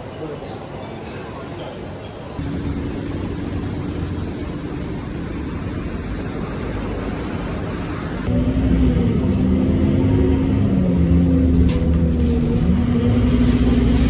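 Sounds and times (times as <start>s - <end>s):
road traffic rumble: 1.8s - 14.0s
bus interior low hum: 2.4s - 14.0s.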